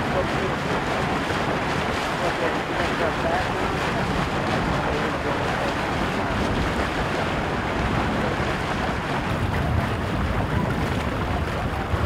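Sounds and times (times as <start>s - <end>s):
waves washing: 0.0s - 12.0s
wind buffeting microphone: 0.0s - 12.0s.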